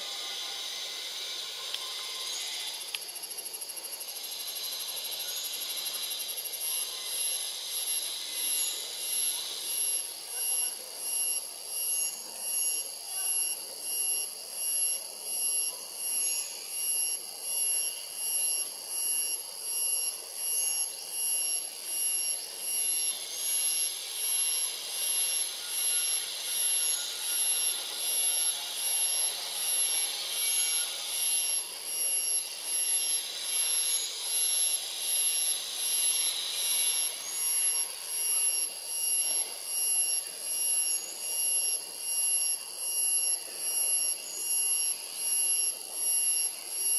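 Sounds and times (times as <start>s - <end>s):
hissing insect layer: 0.0s - 46.9s
insects droning: 0.0s - 46.9s.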